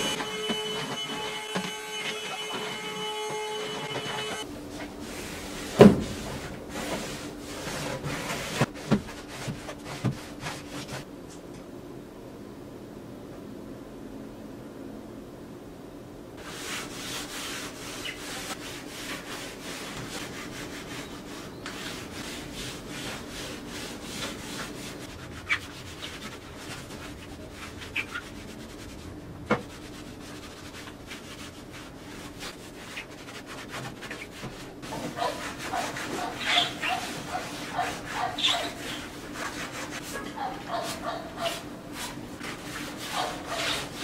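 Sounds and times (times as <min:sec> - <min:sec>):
cloth rubbing wooden boards: 0:00.0 - 0:11.1, 0:16.4 - 0:44.0.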